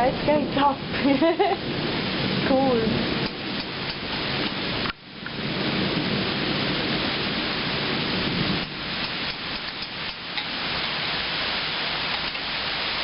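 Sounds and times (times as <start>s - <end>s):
low rumble of thunder: 0.0s - 12.0s
heavy rain pouring: 0.0s - 13.0s.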